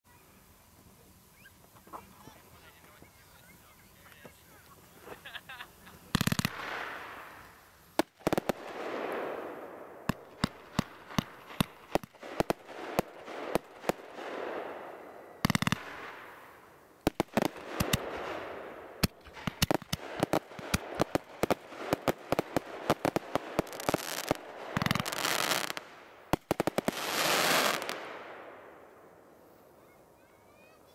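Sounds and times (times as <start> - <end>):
fireworks hissing: 0.1 - 28.8
fireworks bangs and crackles: 1.8 - 29.0.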